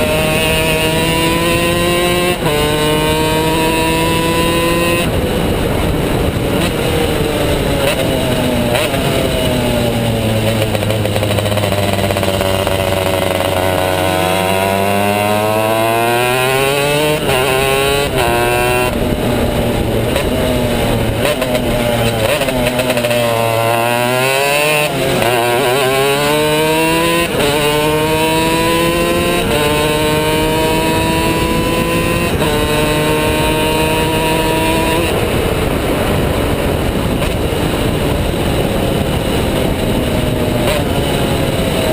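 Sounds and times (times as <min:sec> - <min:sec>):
racing kart engine revving: 0:00.0 - 0:41.9.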